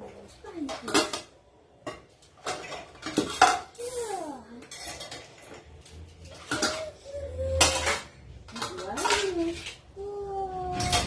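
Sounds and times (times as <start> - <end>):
dishes and cutlery clinking: 0.0 - 10.0.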